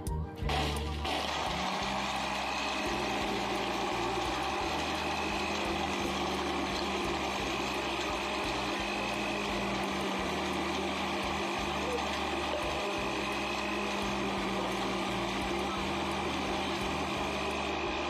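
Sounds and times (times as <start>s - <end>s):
blender motor humming: 0.0s - 18.0s.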